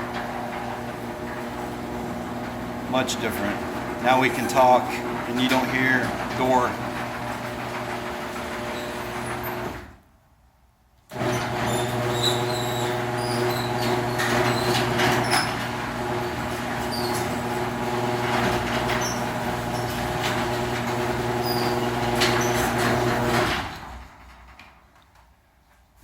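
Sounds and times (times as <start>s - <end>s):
garage door opener motor hum: 0.0s - 10.0s, 11.1s - 25.0s.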